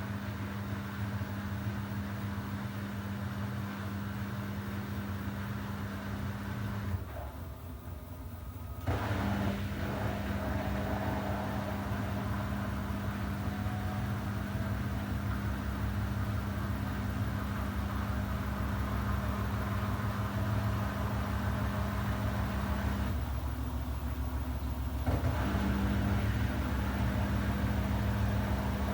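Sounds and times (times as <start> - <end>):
washing machine humming: 0.0 - 28.9.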